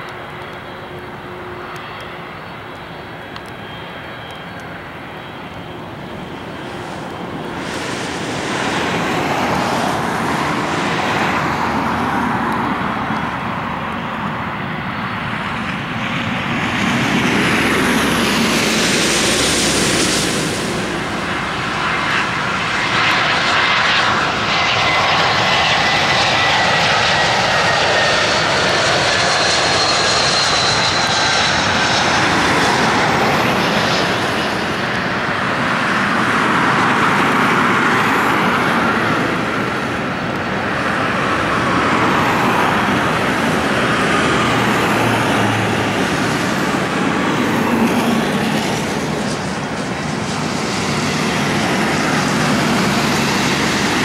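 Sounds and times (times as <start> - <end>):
falling engine whines: 0.0 - 54.0
jet engines landing: 0.0 - 54.0.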